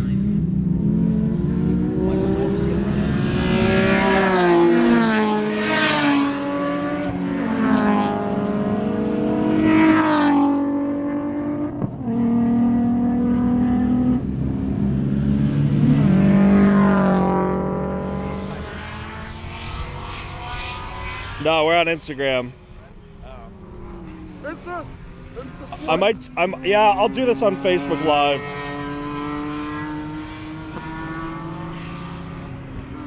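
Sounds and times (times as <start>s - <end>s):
race cars passing at speed: 0.0s - 33.0s.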